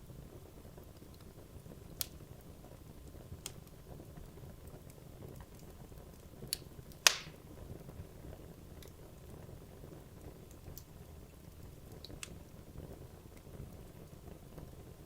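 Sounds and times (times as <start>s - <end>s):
logs burning in fireplace: 0.0s - 15.0s.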